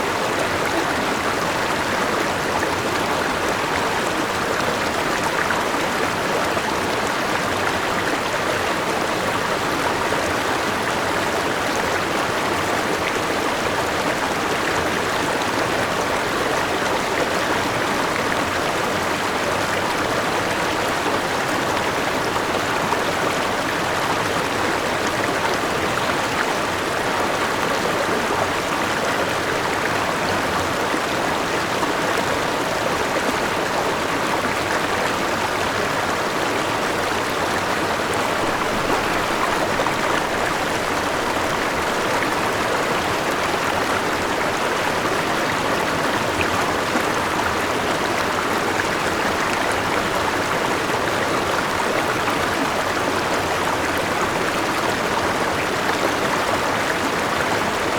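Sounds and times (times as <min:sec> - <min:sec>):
river rushing over rocks: 0:00.0 - 0:57.9.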